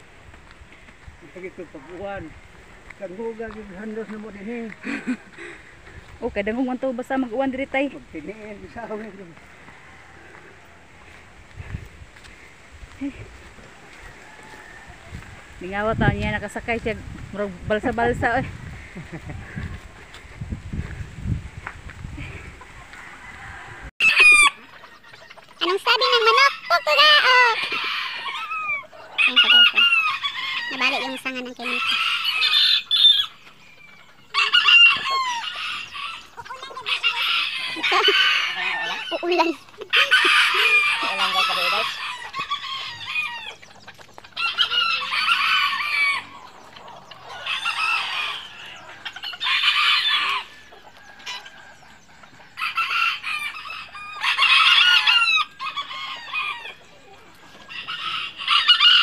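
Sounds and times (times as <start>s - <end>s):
roosters crowing: 3.1s - 12.5s, 13.1s - 16.8s, 22.2s - 59.0s.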